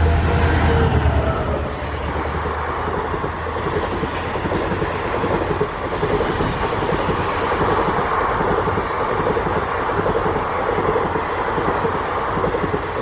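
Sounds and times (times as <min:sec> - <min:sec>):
clickety-clack of train bogies: 0:00.0 - 0:13.0
train wheels rushing on rails: 0:00.0 - 0:13.0.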